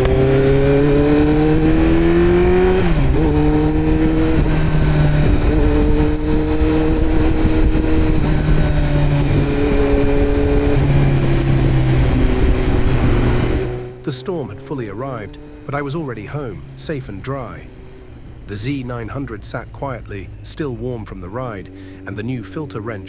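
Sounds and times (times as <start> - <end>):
motorcycle engine revving at speed: 0.0 - 23.0.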